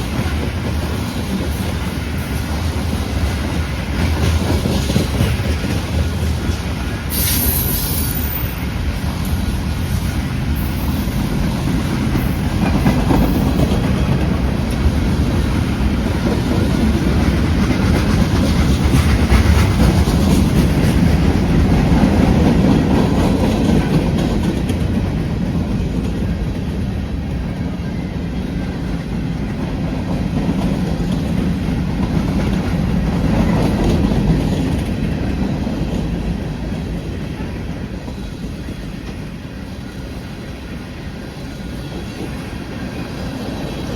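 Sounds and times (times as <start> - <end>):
train wheels rumbling and clacking: 0.0 - 43.9.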